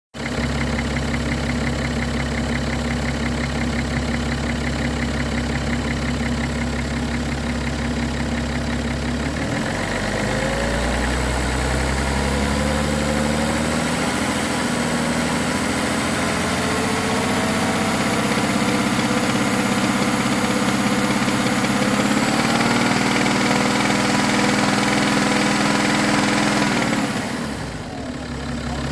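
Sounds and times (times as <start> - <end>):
diesel engine running: 0.2 - 28.9.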